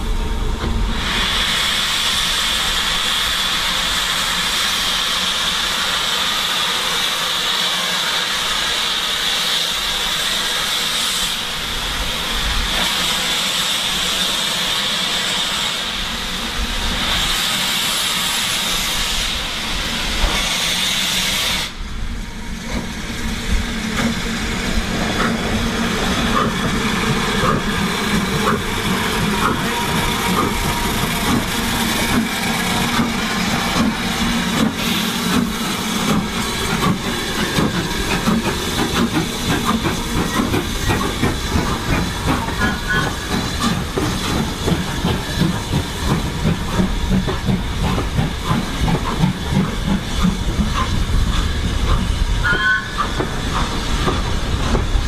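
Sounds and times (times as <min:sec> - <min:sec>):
steam locomotive blowing off steam: 0:00.0 - 0:55.0.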